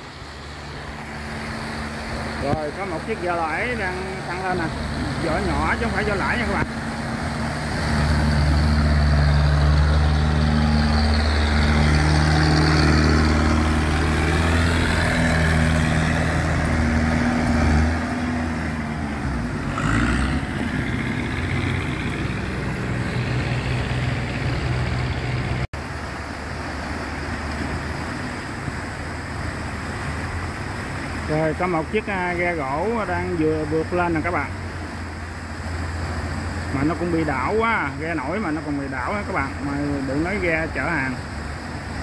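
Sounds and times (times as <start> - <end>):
small boat engine running hard: 0.0 - 42.0
turbulent water rushing: 0.0 - 42.0.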